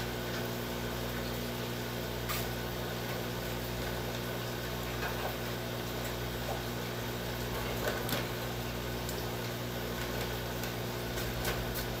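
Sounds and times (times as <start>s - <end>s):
aquarium filter pump humming: 0.0s - 12.0s.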